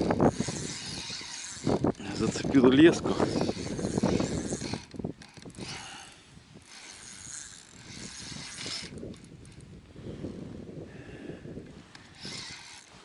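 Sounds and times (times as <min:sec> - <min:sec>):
fishing reel ticking whir: 0:00.0 - 0:09.9, 0:11.8 - 0:13.0.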